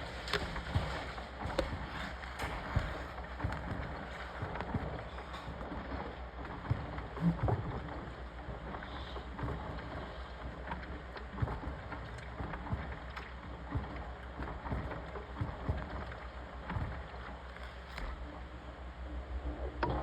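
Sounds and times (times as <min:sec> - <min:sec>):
washing machine churning: 0:00.0 - 0:20.0.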